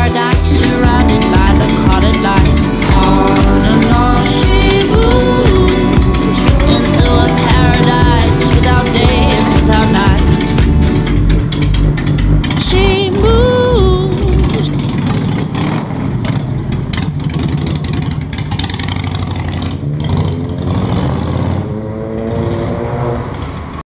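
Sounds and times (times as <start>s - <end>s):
vehicle engine revving: 0.0s - 23.8s.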